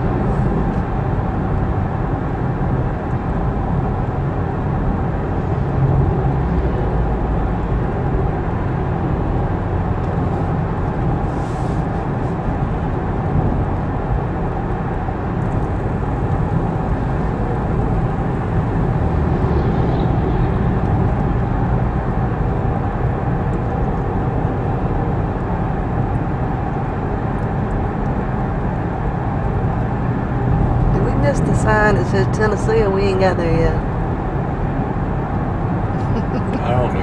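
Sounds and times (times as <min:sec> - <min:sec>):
car engine hum: 0:00.0 - 0:37.0
road and tyre noise: 0:00.0 - 0:37.0.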